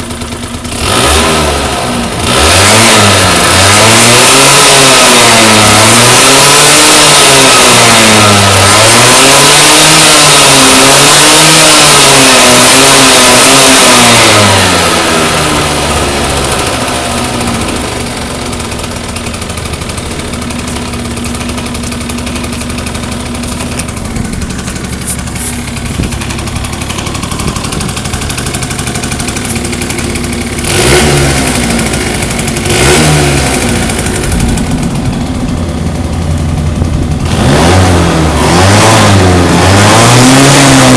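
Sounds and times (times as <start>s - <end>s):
scooter engine revving and idling: 0.0s - 40.9s.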